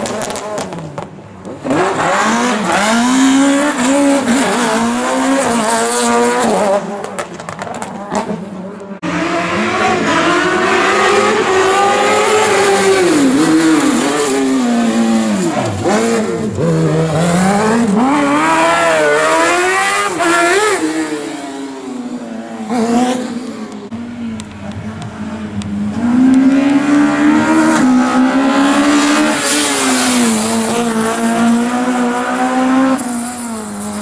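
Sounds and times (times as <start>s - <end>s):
rally car engine revving: 0.0s - 34.0s
buggy engine revving high: 1.6s - 6.9s, 9.0s - 24.0s, 25.2s - 34.0s.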